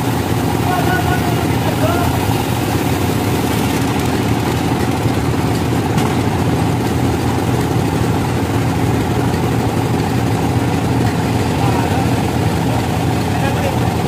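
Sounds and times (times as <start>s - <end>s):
engine idling drone: 0.0s - 14.0s.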